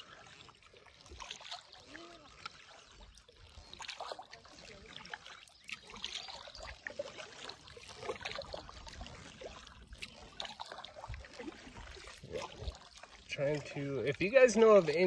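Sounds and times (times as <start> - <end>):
kayak paddle water splashes: 0.0 - 15.0.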